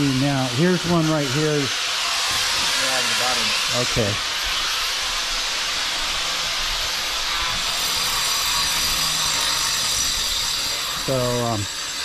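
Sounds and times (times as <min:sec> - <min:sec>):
loud steady hiss: 0:00.0 - 0:12.0.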